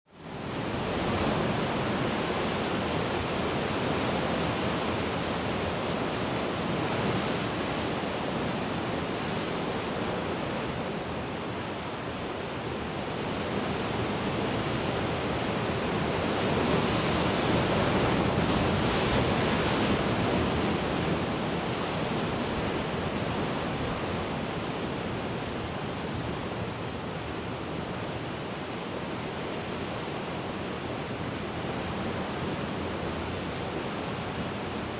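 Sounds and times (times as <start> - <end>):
sea waves rushing on shore: 0.2 - 34.9.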